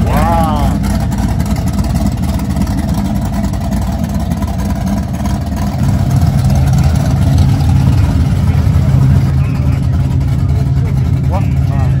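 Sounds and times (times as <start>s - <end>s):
car engine idling choppy: 0.0s - 12.0s.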